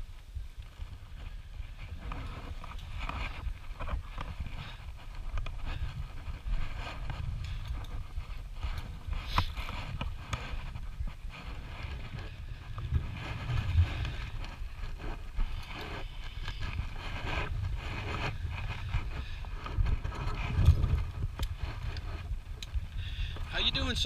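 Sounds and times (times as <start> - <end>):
low microphone rumble: 0.0 - 24.0.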